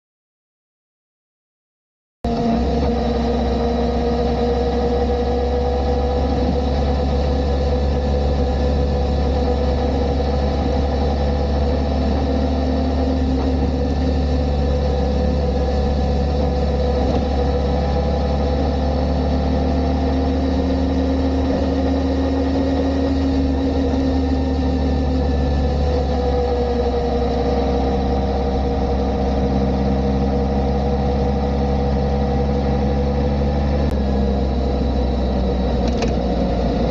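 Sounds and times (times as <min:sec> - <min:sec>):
motorcycle engine running: 0:02.3 - 0:36.9.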